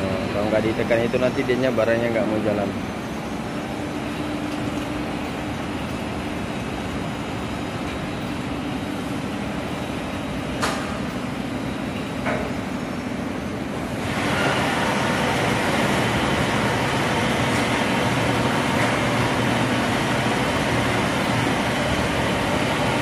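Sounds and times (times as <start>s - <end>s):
laundry machinery droning: 0.0s - 23.0s.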